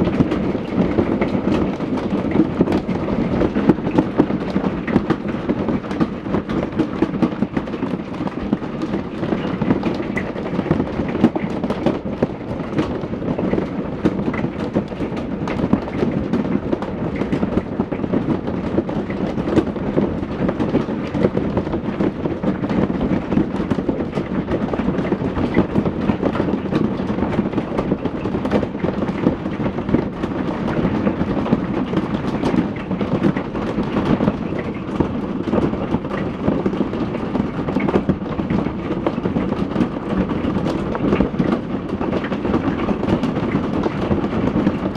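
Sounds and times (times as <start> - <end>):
hailstones pelting hard surfaces: 0.0 - 44.9.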